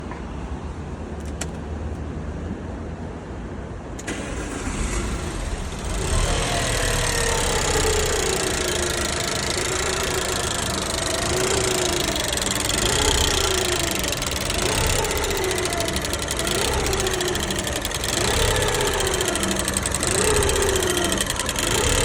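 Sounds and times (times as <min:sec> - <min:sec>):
car engine starting and idling: 0:01.2 - 0:02.0, 0:04.0 - 0:22.0.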